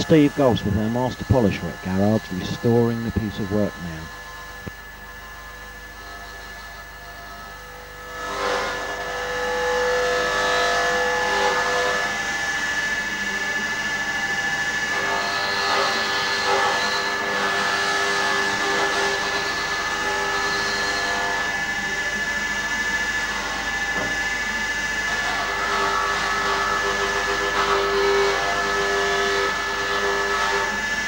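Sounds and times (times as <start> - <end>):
polishing lathe motor whine: 0.0 - 31.0.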